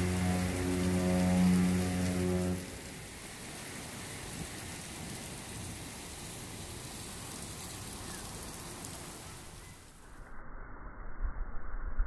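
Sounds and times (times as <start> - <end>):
steady rain falling: 0.0 - 10.1.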